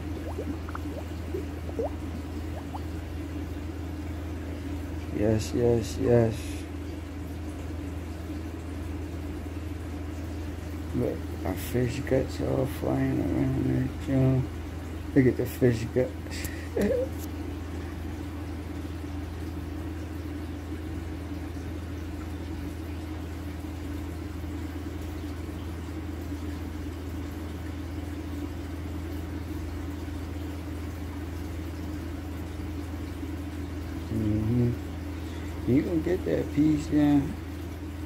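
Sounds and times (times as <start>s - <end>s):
aquarium equipment humming: 0.0s - 38.0s.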